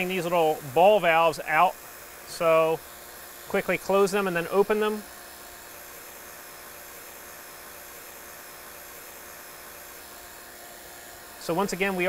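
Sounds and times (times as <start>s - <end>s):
vacuum pump running: 0.0s - 12.0s.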